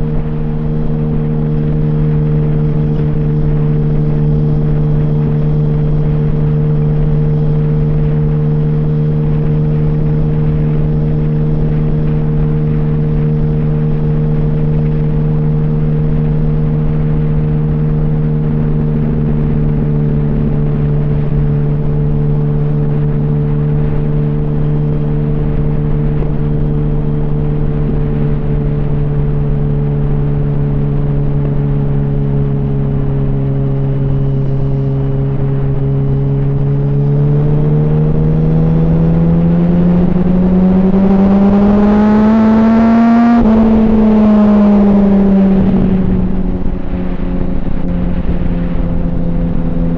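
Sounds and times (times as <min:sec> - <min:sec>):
motorcycle engine through open exhaust: 0:00.0 - 0:49.9.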